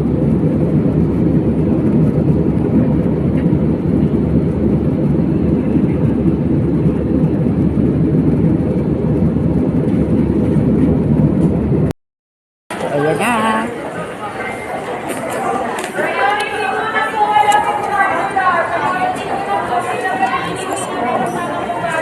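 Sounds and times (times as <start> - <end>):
airplane low rumble: 0.0 - 12.0, 12.7 - 22.0.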